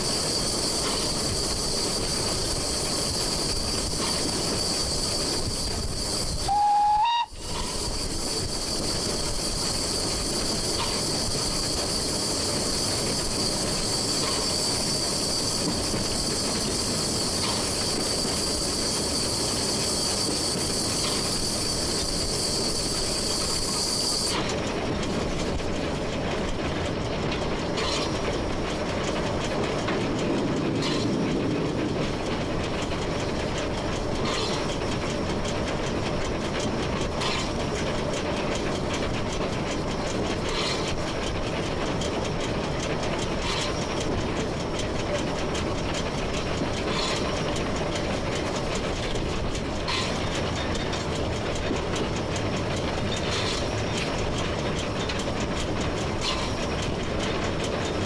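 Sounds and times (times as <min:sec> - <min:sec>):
steam locomotive running: 0:00.0 - 0:58.0
wheels clicking on rail joints: 0:00.0 - 0:58.0.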